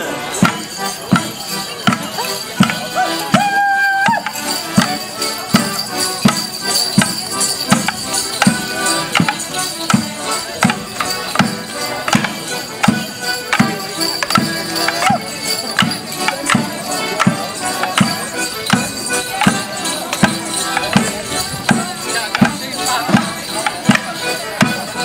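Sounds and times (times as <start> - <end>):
accordions playing a dance tune: 0.0 - 25.0
sharp regular knocks: 0.4 - 3.0, 4.2 - 25.0.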